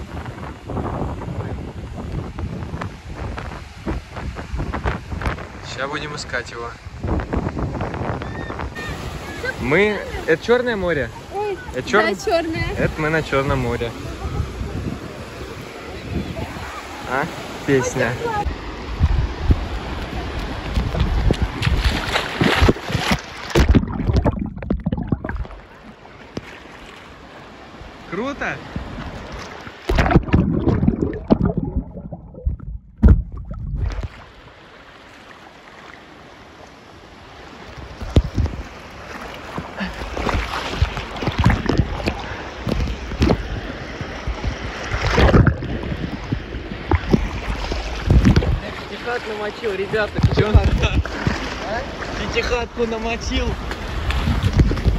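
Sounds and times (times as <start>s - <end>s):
wind buffeting microphone: 0.0s - 10.3s, 11.1s - 17.1s, 17.8s - 25.8s, 28.6s - 34.6s, 37.7s - 38.8s, 39.9s - 54.9s
rushing sea water: 0.0s - 54.9s.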